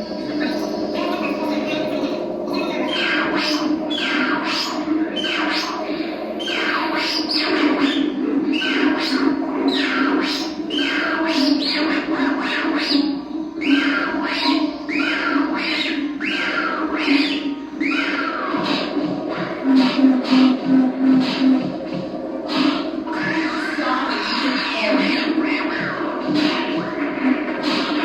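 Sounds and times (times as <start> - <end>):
steady drone: 0.0 - 28.0.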